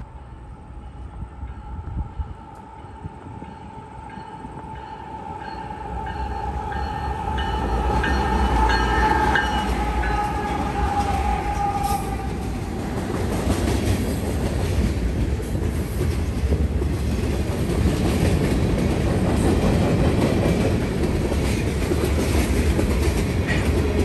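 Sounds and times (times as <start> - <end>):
freight train wheels clattering: 2.8 - 24.0.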